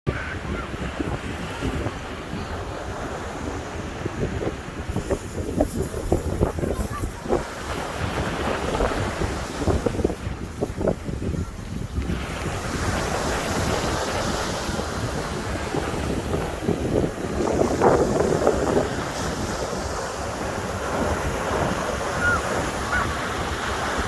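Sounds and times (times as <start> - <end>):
sea waves washing onto shore: 0.1 - 24.0
wind buffeting microphone: 0.1 - 24.0.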